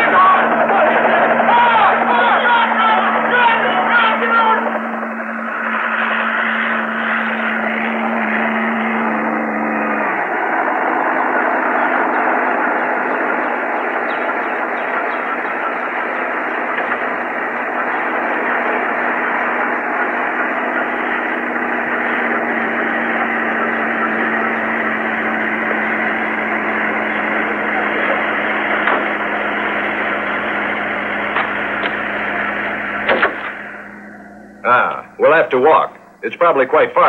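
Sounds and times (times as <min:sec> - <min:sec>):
helicopter engine and rotor running: 0:00.0 - 0:37.0.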